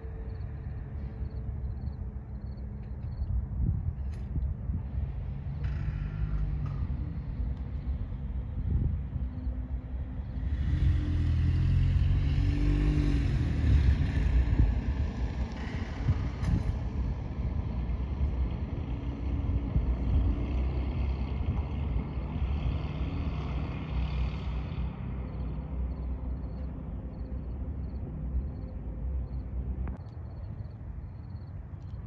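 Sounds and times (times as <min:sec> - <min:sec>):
light airplane engine running: 0:00.0 - 0:32.0.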